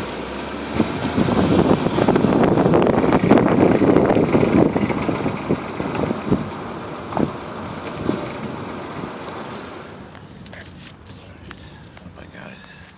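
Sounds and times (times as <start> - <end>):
car road and wind noise: 0.0 - 12.9.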